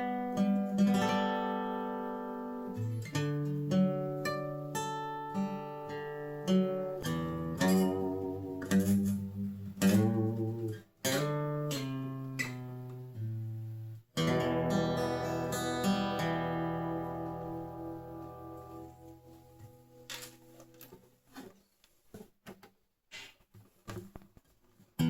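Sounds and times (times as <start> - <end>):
acoustic guitar picking and strumming: 0.0 - 21.5.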